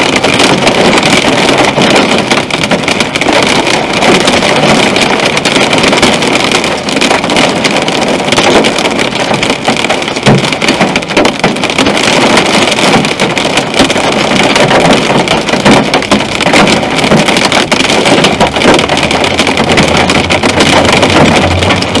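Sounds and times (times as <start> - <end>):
heavy rain drumming on car roof: 0.0 - 22.0.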